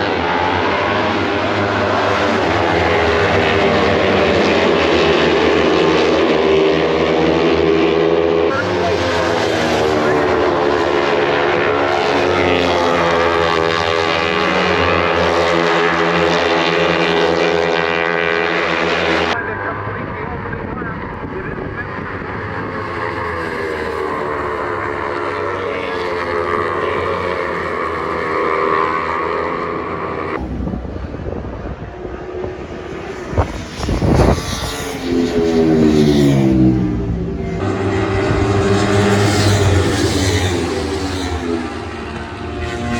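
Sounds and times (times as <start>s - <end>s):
racing motorcycle engines at high revs: 0.0s - 42.9s.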